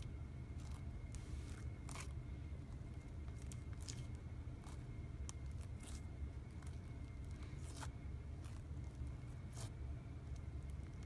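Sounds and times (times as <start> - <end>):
crunchy slime crackling: 0.0 - 11.0
low steady hum: 0.0 - 11.0.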